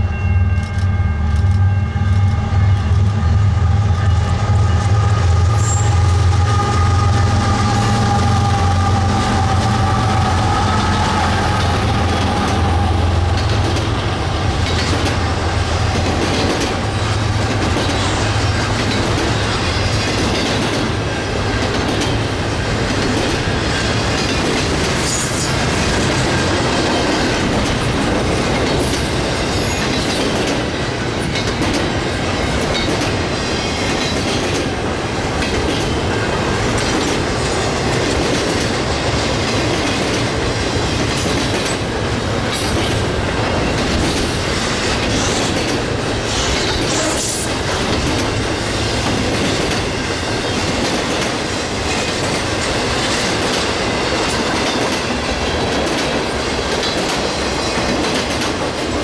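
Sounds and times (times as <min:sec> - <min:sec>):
diesel locomotives droning: 0:00.0 - 0:59.0
train wheels clacking over rail joints: 0:00.0 - 0:59.0.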